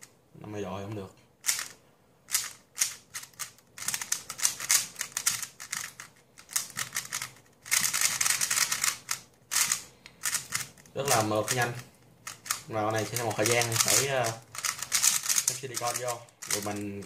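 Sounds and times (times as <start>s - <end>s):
puzzle cube plastic clicking: 1.4s - 17.0s.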